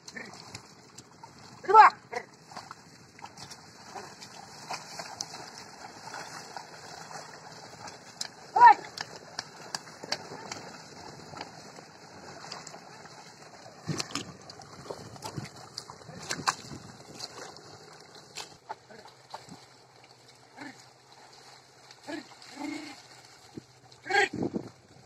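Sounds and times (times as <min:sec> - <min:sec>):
water sloshing in mud: 0:00.0 - 0:25.0.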